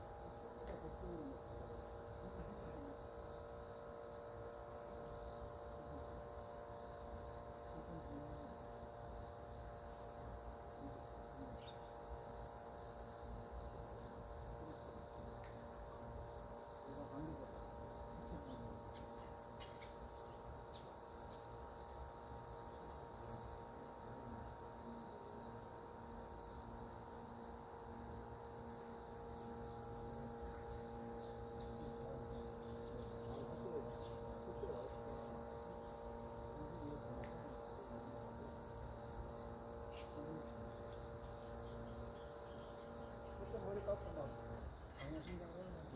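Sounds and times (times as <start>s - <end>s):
insects chirping: 0.0s - 45.9s
steady low hum: 0.0s - 45.9s.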